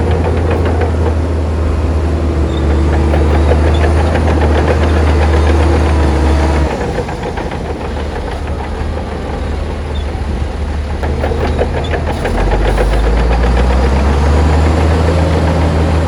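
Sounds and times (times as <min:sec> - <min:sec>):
diesel engine running: 0:00.0 - 0:16.0
rapid metallic clattering: 0:00.0 - 0:16.0.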